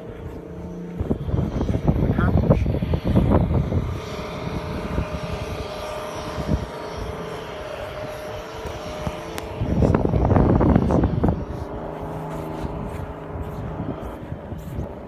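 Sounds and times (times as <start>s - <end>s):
blizzard wind on microphone: 0.0s - 15.0s.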